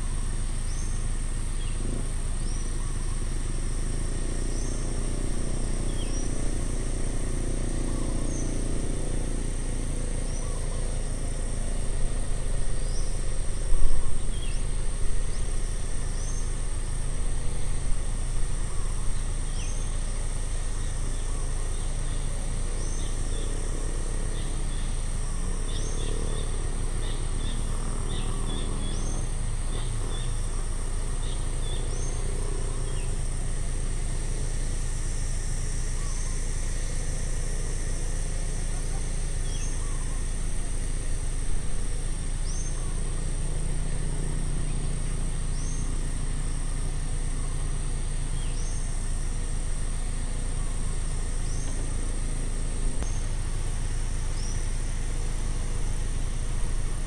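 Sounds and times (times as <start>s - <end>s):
distant road traffic rumble: 0.0s - 57.0s
insect drone: 0.0s - 57.0s
birds chirping: 0.7s - 33.8s, 38.6s - 57.0s.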